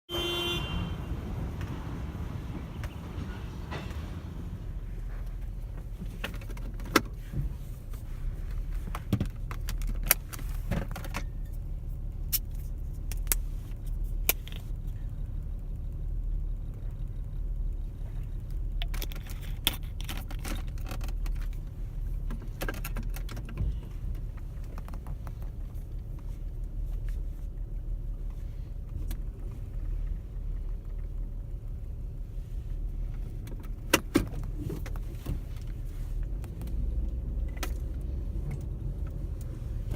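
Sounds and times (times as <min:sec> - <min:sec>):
car cabin rumble: 0:00.1 - 0:39.9.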